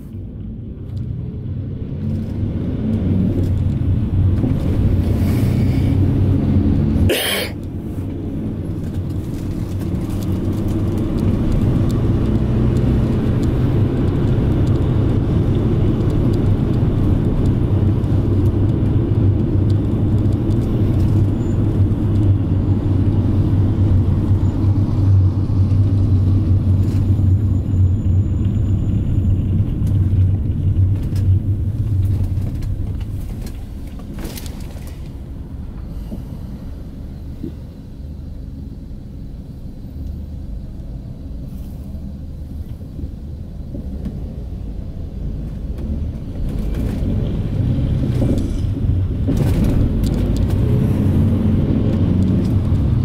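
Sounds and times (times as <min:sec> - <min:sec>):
vehicle engine and road drone: 0:00.0 - 0:53.0.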